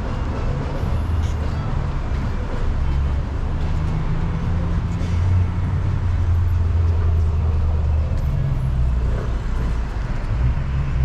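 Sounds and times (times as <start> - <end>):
street noise: 0.0 - 11.0
vehicle engine humming: 0.0 - 11.0.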